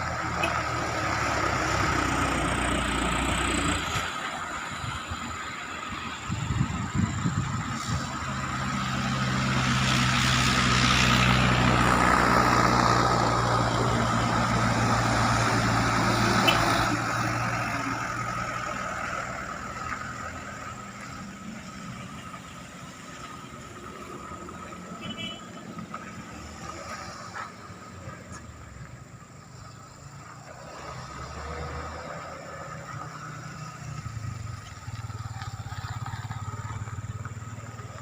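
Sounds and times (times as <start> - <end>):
truck engine passing by: 0.0 - 38.0.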